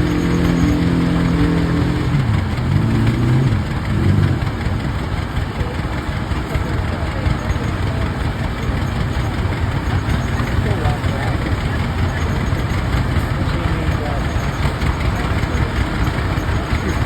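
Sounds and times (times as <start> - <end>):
tractor engines running: 0.0 - 17.0.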